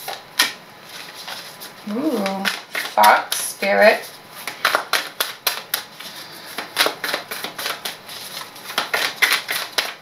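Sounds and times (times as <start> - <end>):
cards shuffling: 0.0 - 10.0.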